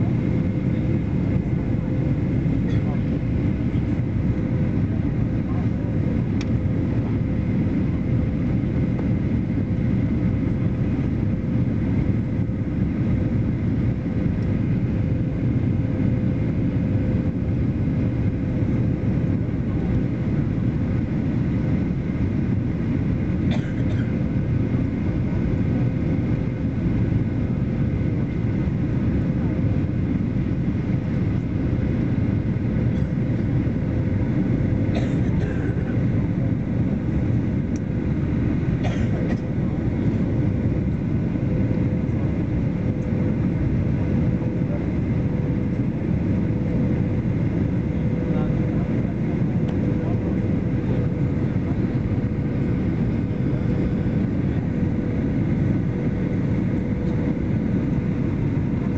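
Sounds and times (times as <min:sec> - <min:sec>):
airliner cabin rumble: 0:00.0 - 0:58.9.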